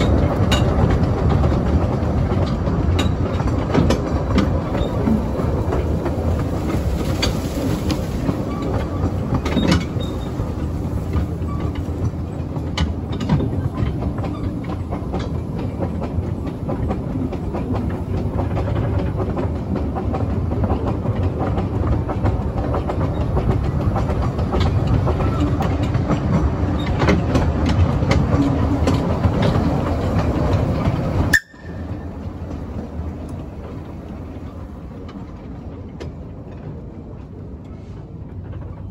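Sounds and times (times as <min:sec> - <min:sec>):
train rumbling: 0:00.0 - 0:38.9
wheels clicking over rail joints: 0:00.0 - 0:38.9.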